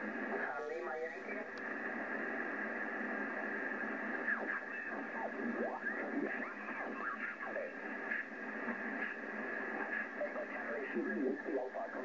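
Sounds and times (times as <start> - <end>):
radio receiver hissing: 0.0 - 12.0.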